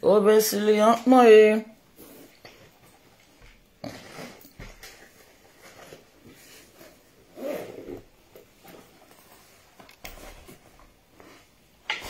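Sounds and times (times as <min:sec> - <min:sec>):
clothing rustling: 0:01.8 - 0:12.0.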